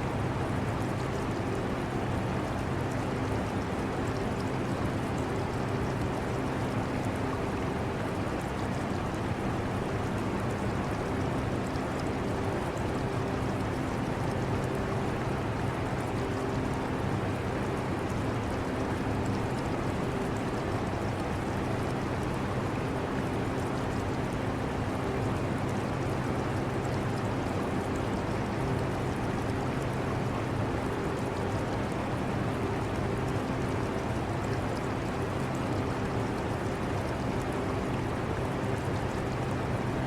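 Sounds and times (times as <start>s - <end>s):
aquarium water: 0.0s - 40.0s.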